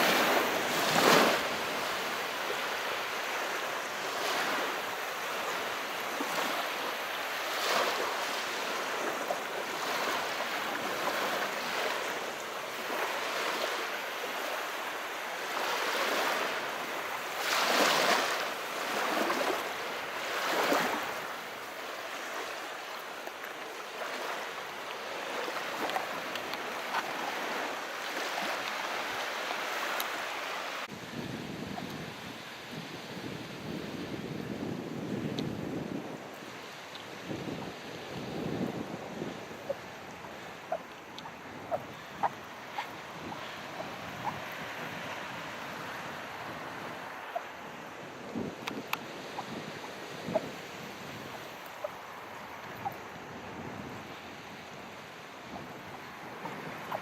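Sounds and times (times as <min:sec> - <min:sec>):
small waves washing in: 0:00.0 - 0:57.0.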